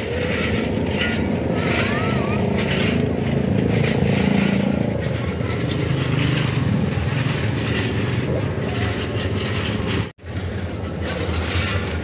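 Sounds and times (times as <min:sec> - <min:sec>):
shovels scraping through stone: 0:00.0 - 0:10.1
engine running steadily: 0:00.0 - 0:12.0.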